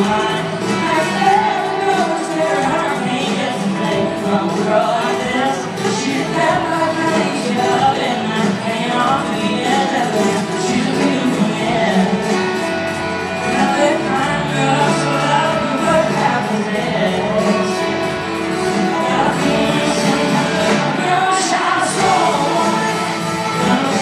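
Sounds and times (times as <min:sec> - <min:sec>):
live band playing country-pop: 0:00.0 - 0:24.0
male lead vocal: 0:00.0 - 0:24.0.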